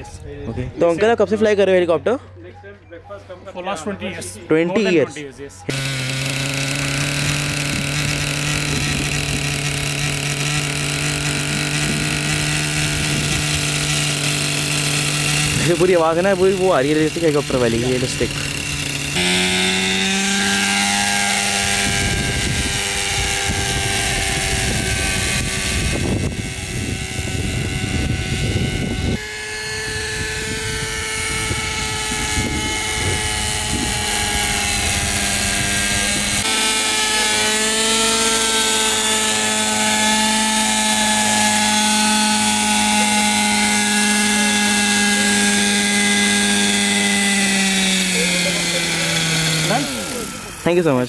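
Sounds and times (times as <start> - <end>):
model helicopter engine whine: 5.7 - 51.0.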